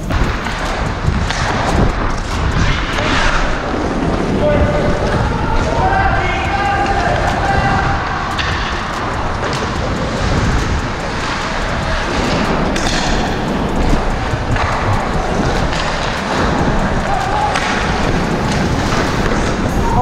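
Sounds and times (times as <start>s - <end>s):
knocks of sticks and puck: 0.0s - 19.8s
skates rushing on ice: 0.0s - 20.0s.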